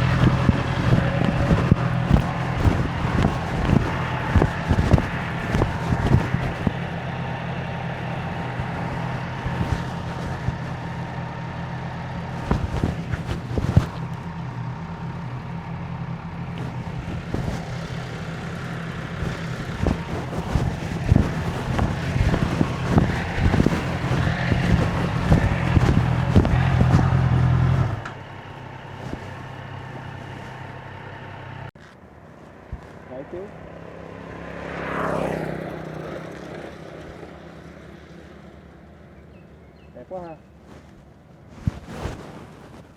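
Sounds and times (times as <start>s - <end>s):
motorcycle engine running: 0.0s - 42.7s.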